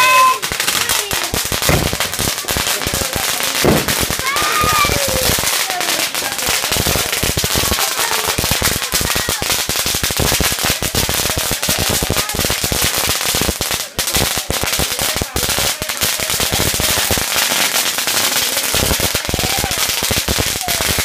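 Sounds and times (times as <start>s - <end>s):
firecrackers crackling: 0.0s - 21.0s.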